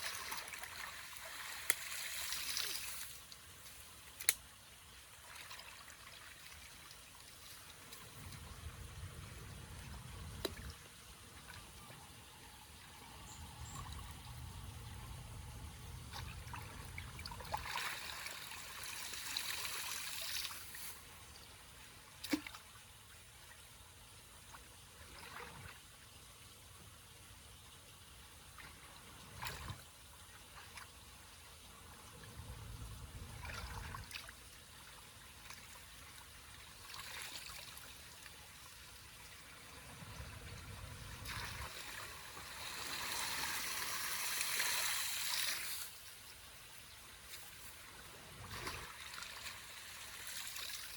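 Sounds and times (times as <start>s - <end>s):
water trickling and splashing: 0.0s - 27.2s, 28.0s - 50.9s.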